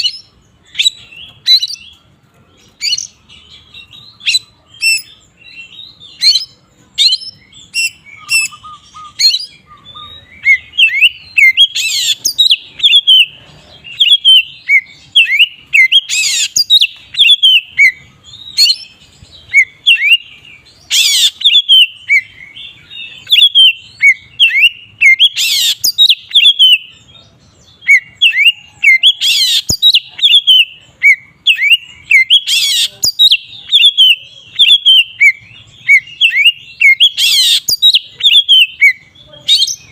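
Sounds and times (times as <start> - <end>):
bird singing whistled song: 0.0 - 2.0, 2.6 - 39.9.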